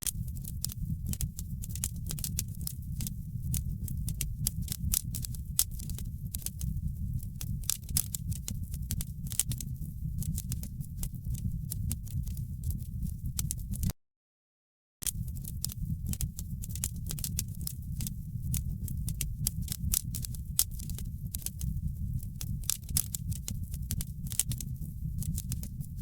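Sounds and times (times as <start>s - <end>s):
wood fire crackling and popping: 0.0s - 13.9s, 15.0s - 26.0s.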